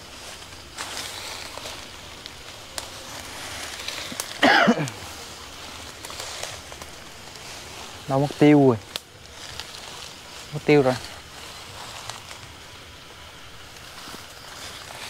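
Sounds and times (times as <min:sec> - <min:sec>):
footsteps crunching through dry leaves: 0:00.0 - 0:15.0
twigs snapping: 0:00.2 - 0:12.8.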